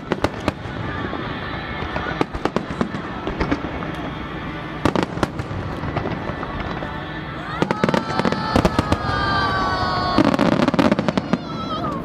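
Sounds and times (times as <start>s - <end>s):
fireworks crackling pops: 0.0s - 12.0s
music: 0.0s - 12.0s
rumbling fireworks explosions: 0.0s - 12.0s.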